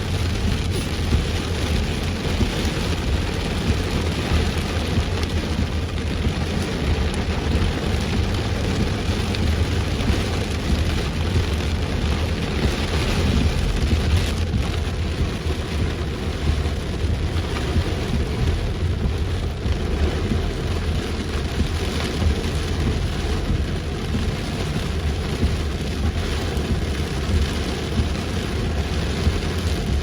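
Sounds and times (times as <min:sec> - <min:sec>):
heavy rain pouring: 0:00.0 - 0:30.0
vehicle rumble: 0:00.0 - 0:30.0.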